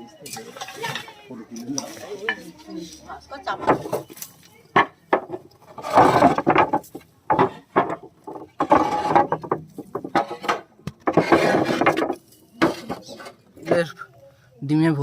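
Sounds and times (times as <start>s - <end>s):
wood and clay tiles clattering: 0.2s - 14.1s.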